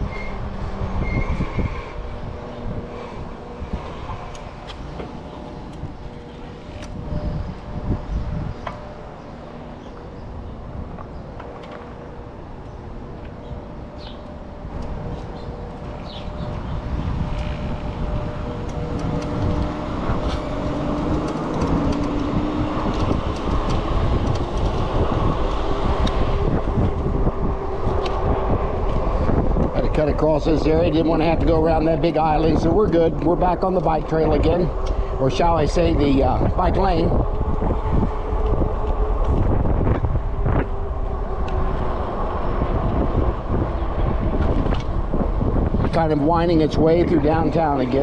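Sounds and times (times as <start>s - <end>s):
steady low whine: 0.0s - 48.0s
tyre and road noise: 0.0s - 48.0s
wind on microphone: 0.0s - 48.0s.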